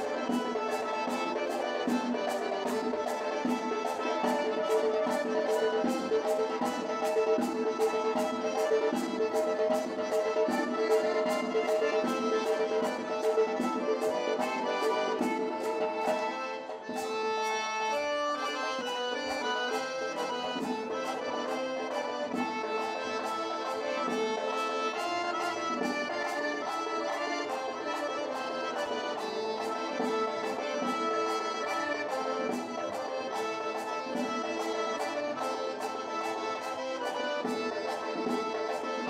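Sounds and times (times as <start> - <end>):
accordion dance tune: 0.0 - 39.0
rhythmic clapping: 0.0 - 39.0.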